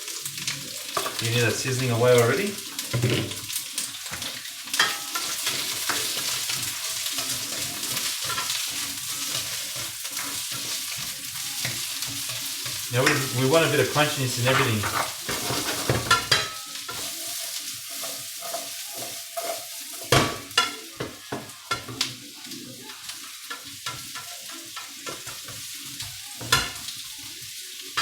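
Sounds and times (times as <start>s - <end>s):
vegetables sizzling in a wok: 0.0s - 28.0s.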